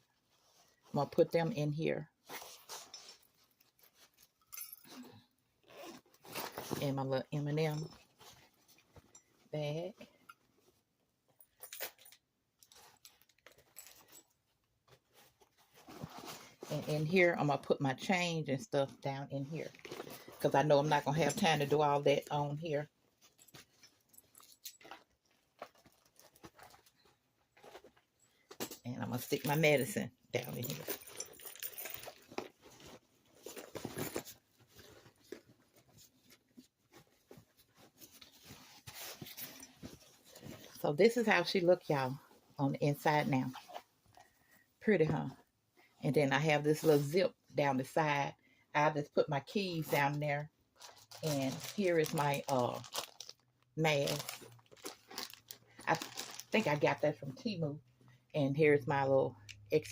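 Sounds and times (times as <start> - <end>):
items packed into a handbag: 0.2 - 10.8, 11.4 - 45.4, 49.4 - 57.4.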